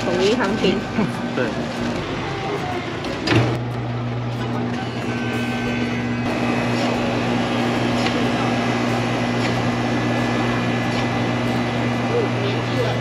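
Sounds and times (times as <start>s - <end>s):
ice cream machine motor humming: 0.0s - 13.0s.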